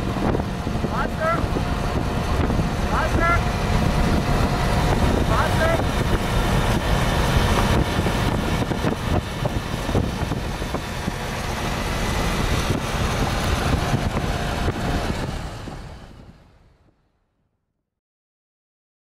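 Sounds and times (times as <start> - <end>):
motorcycle engine running at speed: 0.0 - 16.6.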